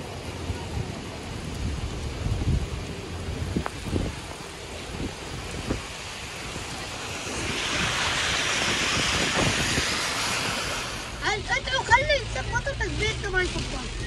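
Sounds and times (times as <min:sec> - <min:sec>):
heavy rain: 0:00.0 - 0:14.0
wind: 0:00.0 - 0:14.0
wind buffeting microphone: 0:00.0 - 0:14.0.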